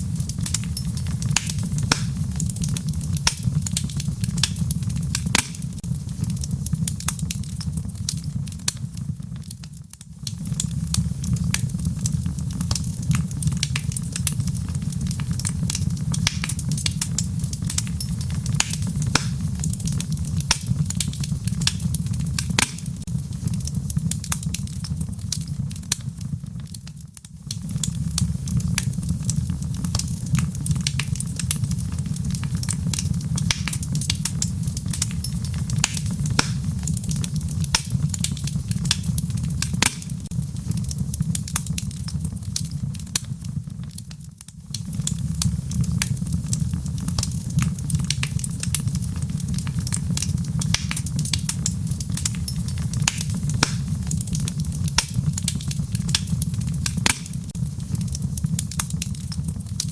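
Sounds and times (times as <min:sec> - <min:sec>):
low rumble of flames: 0:00.0 - 0:59.9
wood fire crackling: 0:00.0 - 0:59.9
sharp pops and snaps: 0:00.1 - 0:59.9.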